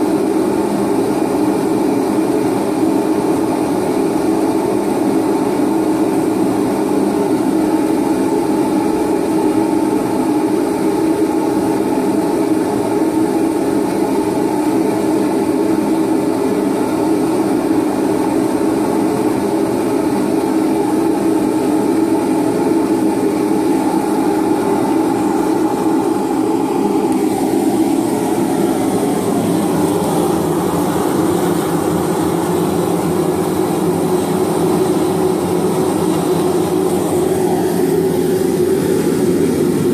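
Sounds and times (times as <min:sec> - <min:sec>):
propane forge burners roaring: 0:00.0 - 0:39.9.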